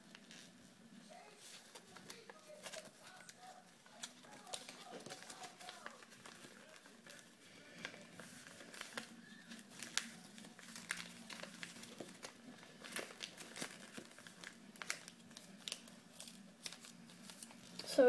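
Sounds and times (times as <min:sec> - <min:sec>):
faint steady hum: 0:00.0 - 0:18.0
paper folding and crinkling: 0:00.0 - 0:18.0.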